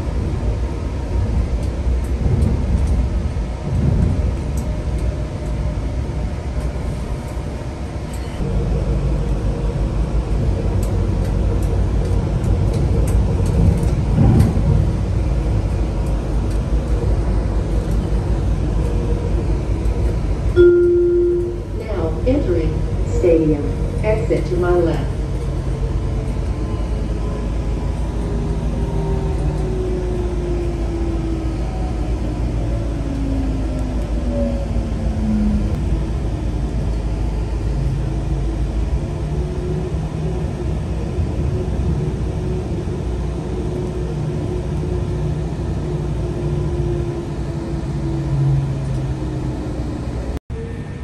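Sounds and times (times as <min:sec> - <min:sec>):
train wheels rumbling on track: 0:00.0 - 0:51.0.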